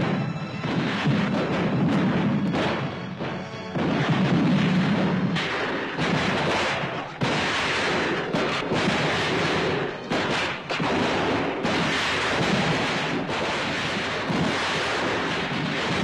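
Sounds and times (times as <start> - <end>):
booming explosions: 0.0 - 16.0
massed rifle fire: 0.0 - 16.0.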